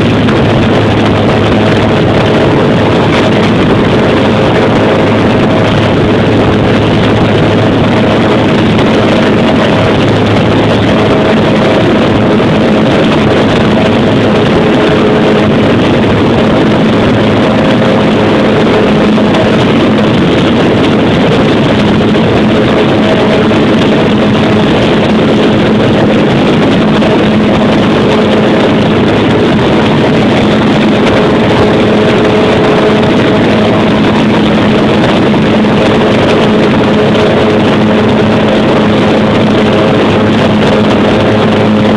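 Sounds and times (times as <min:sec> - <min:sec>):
aircraft engine and propeller: 0:00.0 - 0:41.9
rushing air: 0:00.0 - 0:41.9
steady humming tones: 0:00.0 - 0:41.9.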